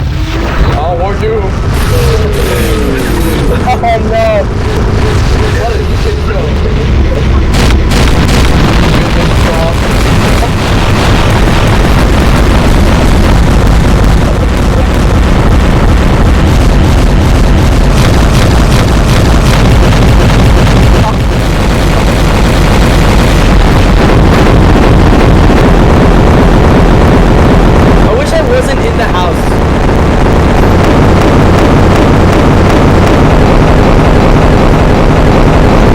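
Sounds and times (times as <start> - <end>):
explosion sound effect: 0.0 - 35.9.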